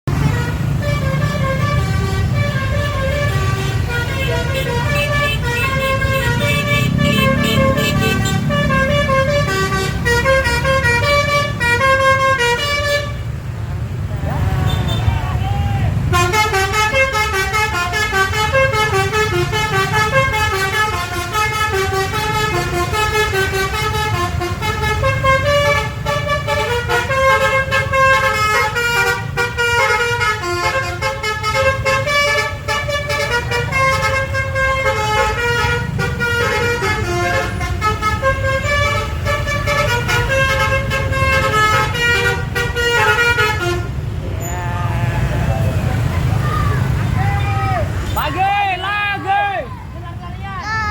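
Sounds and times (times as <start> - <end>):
bus horn playing a melody: 0.1 - 13.3, 16.1 - 44.2.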